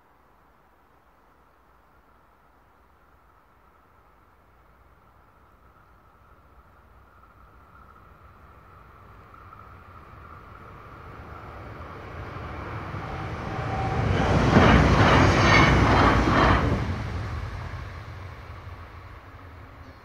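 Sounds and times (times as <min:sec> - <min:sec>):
electric train passing: 0:03.2 - 0:20.0.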